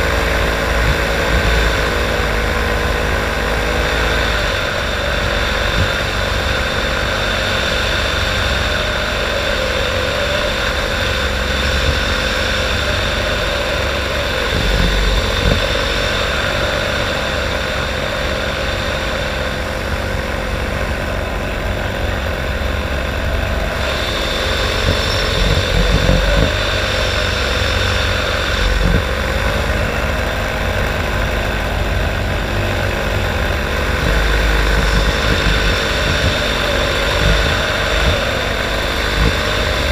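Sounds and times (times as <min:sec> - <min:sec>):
light aircraft engine droning: 0:00.0 - 0:39.9
wind buffeting microphone: 0:00.0 - 0:39.9.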